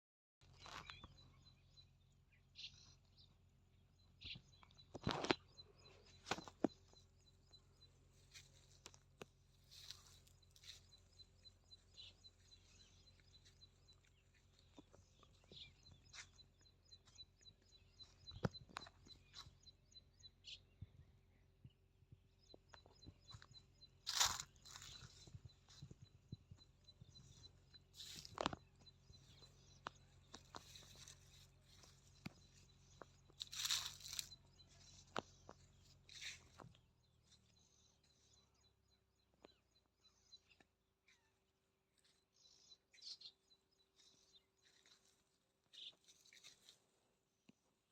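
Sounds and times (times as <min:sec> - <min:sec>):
high chirping of birds or insects: 0:00.4 - 0:47.8.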